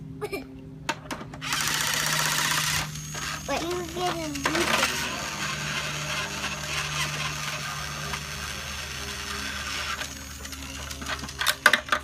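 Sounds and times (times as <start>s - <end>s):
toy screwdriver whirring: 1.4s - 12.0s.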